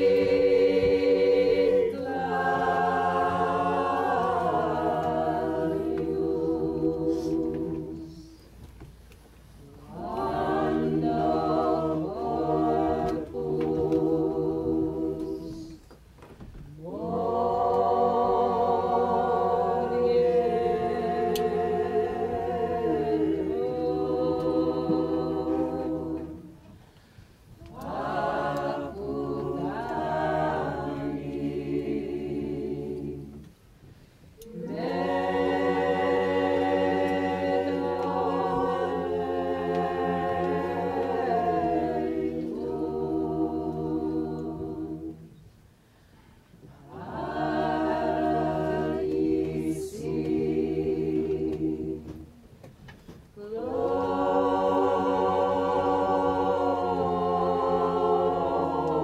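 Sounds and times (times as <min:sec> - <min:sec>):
mixed choir singing a cappella: 0:00.0 - 0:08.6, 0:09.6 - 0:16.0, 0:16.6 - 0:59.0.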